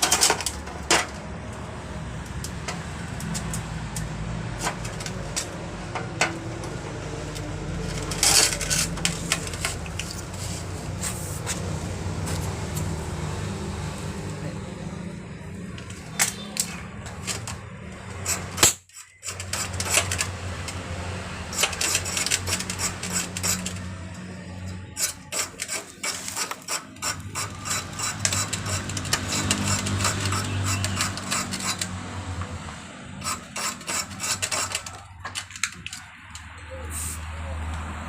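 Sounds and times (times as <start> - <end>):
hand tool clicks and scraping knocks: 0.0 - 13.0, 15.7 - 20.9, 21.5 - 37.8.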